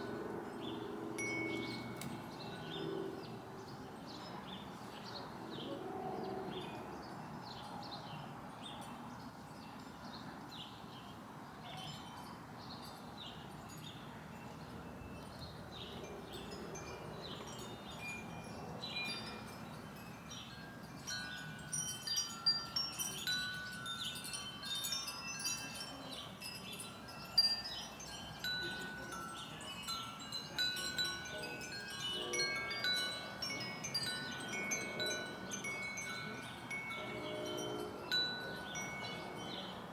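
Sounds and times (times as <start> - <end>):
wind chimes ringing: 0.0 - 5.6, 6.4 - 39.9.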